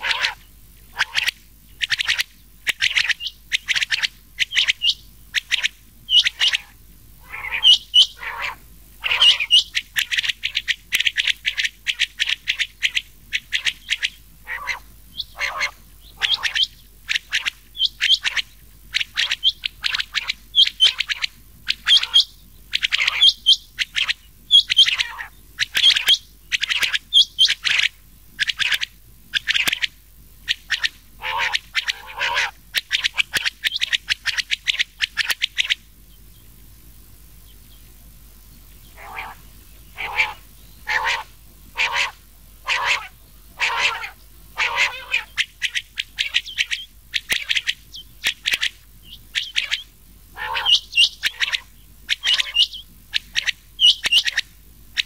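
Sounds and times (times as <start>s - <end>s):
quail calls: 0.0s - 35.9s, 38.8s - 55.0s.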